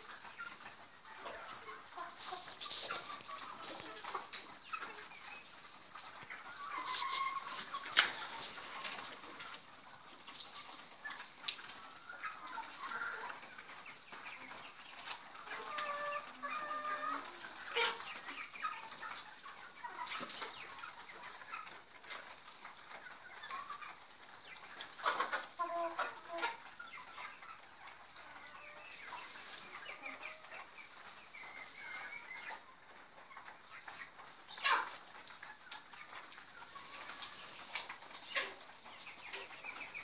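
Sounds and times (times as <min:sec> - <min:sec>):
chickens calling: 0:00.0 - 0:40.0.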